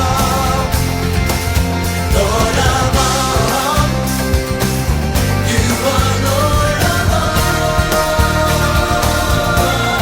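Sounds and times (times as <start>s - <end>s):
band playing a hymn: 0.0s - 10.0s.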